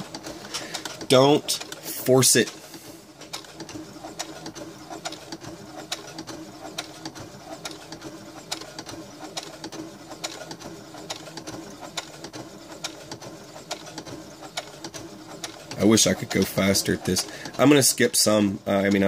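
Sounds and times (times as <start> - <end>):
sewing machine motor hum: 0.0 - 19.0.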